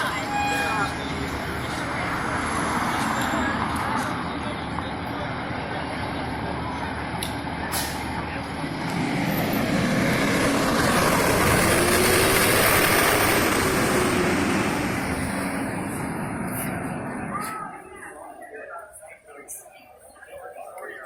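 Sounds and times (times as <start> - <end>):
fire engine driving past: 0.0 - 18.0.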